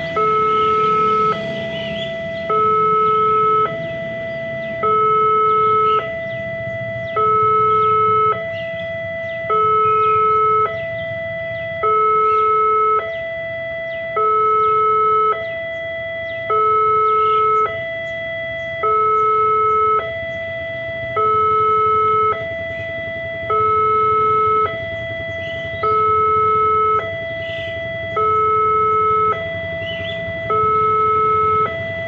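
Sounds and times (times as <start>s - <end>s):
level crossing two-tone alarm: 0.0s - 32.0s.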